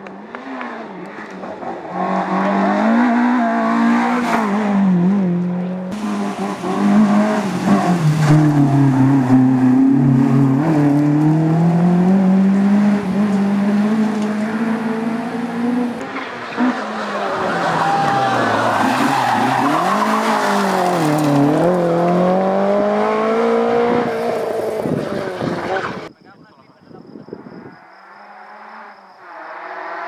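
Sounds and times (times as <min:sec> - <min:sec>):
rally car engine at high revs: 0:00.0 - 0:26.1, 0:28.0 - 0:30.0.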